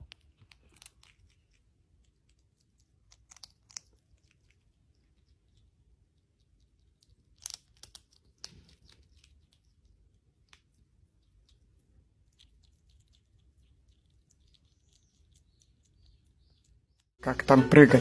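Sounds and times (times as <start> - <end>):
animal chewing: 0.0 - 16.9.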